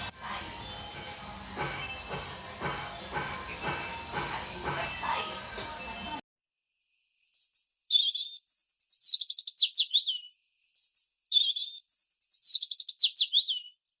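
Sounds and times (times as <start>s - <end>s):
bird singing: 0.0s - 6.2s, 7.2s - 13.8s.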